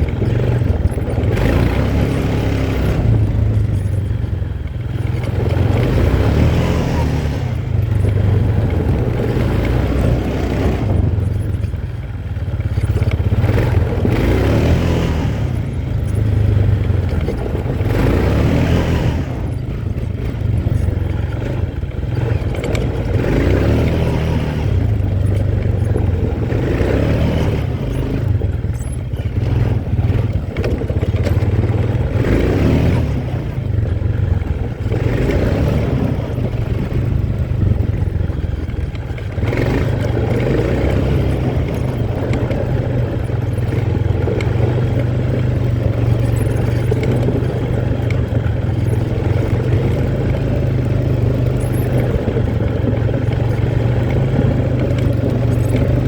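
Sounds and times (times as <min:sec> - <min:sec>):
quad bike engine humming: 0:00.0 - 0:56.0.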